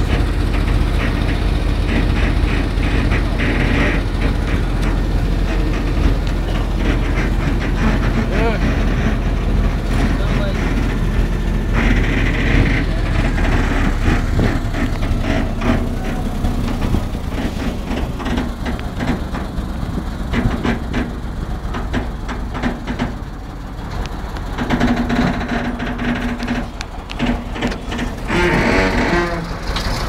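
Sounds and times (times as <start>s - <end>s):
truck engine running: 0.0s - 30.0s
vehicle body rattling: 0.0s - 30.0s.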